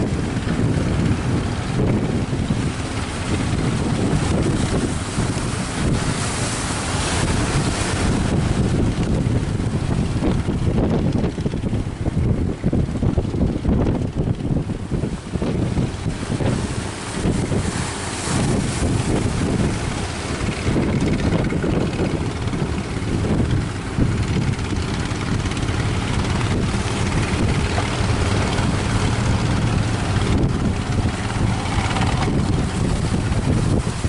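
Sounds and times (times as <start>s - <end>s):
boat engine drone: 0.0s - 34.0s
wind buffeting microphone: 0.0s - 34.0s.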